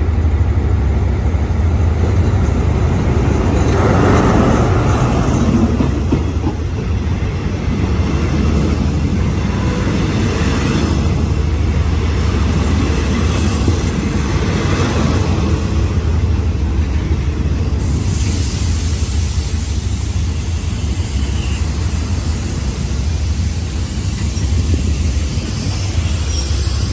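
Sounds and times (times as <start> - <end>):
diesel train rumbling: 0.0 - 26.9.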